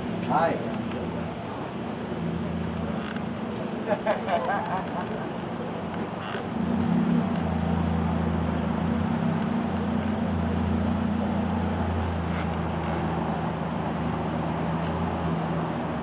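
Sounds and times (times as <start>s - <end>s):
street traffic: 0.0s - 16.0s
vehicle engine humming: 0.0s - 16.0s.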